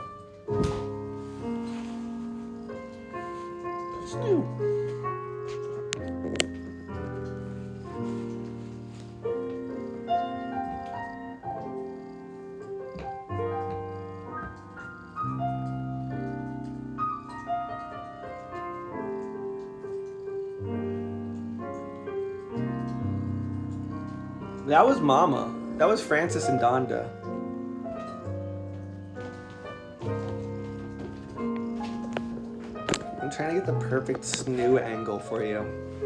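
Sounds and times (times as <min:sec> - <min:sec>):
slow piano music: 0:00.0 - 0:36.0.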